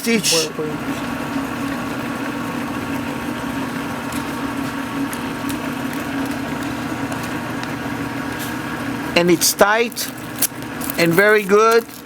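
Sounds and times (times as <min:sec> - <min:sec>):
sewing machine motor humming: 0:00.0 - 0:12.0.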